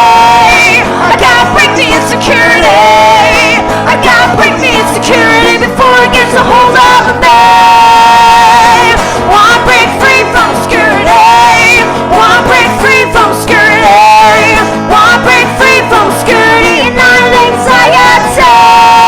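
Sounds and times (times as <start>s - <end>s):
acoustic guitar: 0.0s - 19.0s
person singing: 0.0s - 19.0s.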